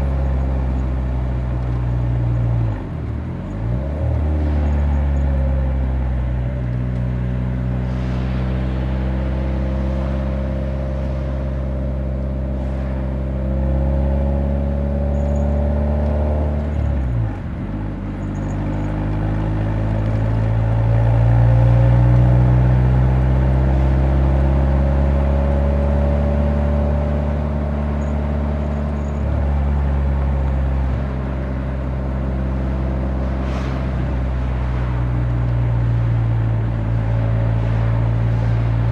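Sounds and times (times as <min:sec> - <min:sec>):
car exhaust drone: 0:00.0 - 0:38.9.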